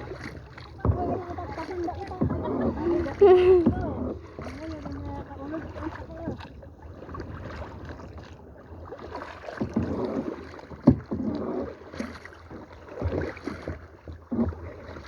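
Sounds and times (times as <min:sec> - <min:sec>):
paddle splashing in water: 0:00.0 - 0:15.0
wind rumble on microphone: 0:00.0 - 0:15.0.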